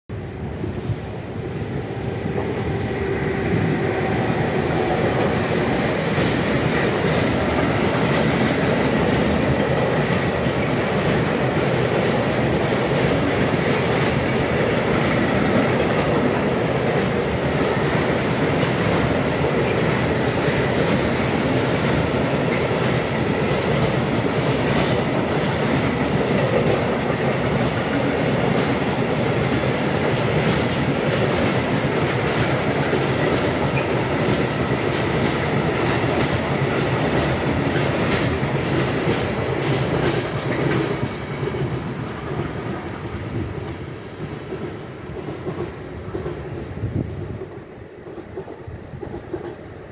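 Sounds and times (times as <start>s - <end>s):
train wheels rumbling over rail joints: 0.3s - 49.9s.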